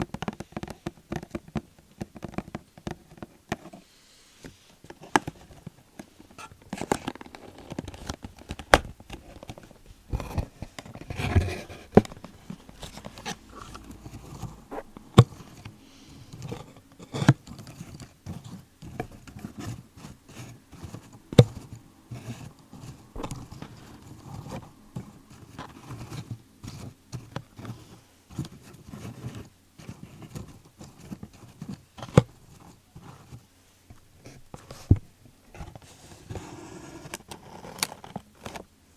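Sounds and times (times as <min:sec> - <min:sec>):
rustling: 0:02.1 - 0:38.8.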